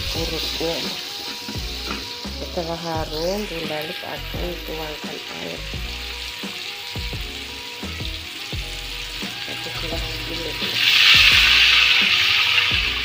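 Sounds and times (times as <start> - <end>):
paste sizzling in hot oil: 0.0 - 13.0
water poured into hot pan: 0.0 - 13.0.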